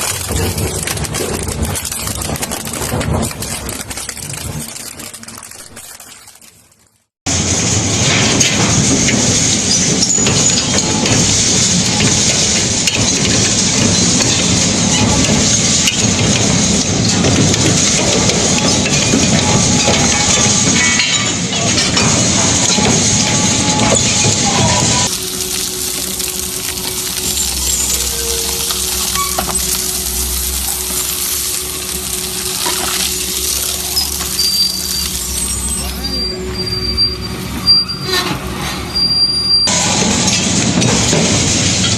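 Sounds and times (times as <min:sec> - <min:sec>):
hammer crusher smashing material: 0:00.0 - 0:06.0, 0:07.3 - 0:36.2, 0:39.7 - 0:41.9.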